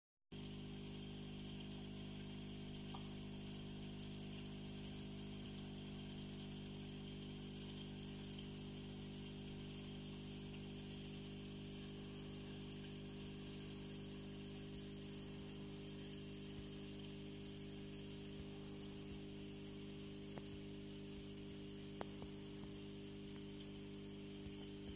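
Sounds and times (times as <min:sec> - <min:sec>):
filter pump electric hum: 0:00.3 - 0:24.9.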